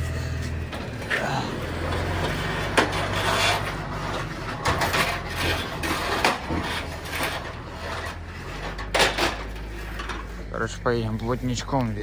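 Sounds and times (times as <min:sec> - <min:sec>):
low engine hum: 0:00.0 - 0:12.0
knocks and clatters: 0:00.5 - 0:10.5.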